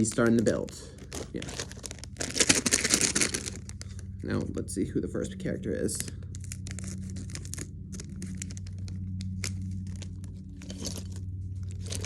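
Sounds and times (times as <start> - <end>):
plastic wrapping crinkling: 0.0 - 4.1, 6.2 - 12.0
steady low hum: 0.0 - 12.0.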